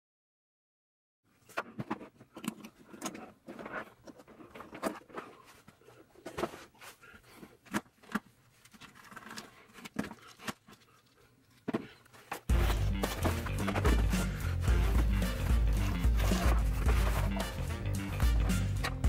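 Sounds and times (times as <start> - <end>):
rustling: 1.4 - 19.0.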